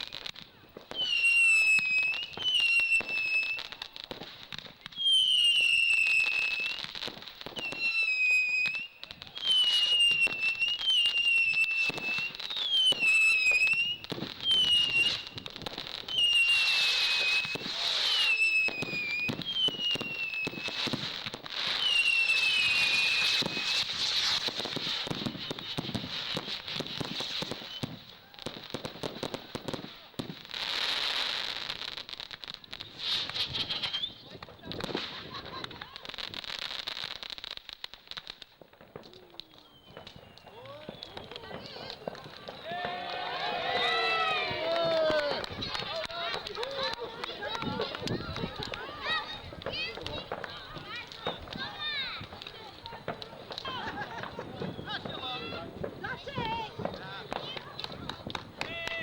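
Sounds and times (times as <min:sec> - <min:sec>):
fireworks crackling and fizzing: 0:00.0 - 0:59.0
fireworks cracks and pops: 0:00.0 - 0:59.0
whistling fireworks: 0:00.0 - 0:59.0.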